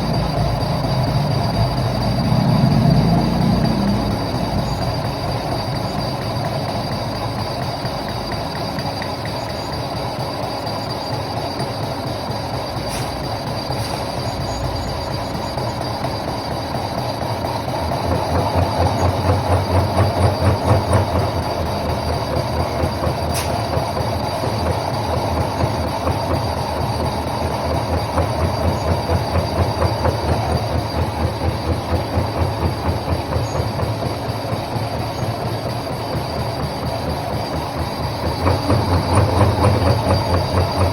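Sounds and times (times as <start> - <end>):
lathe rhythmic machine noise: 0.0 - 40.9.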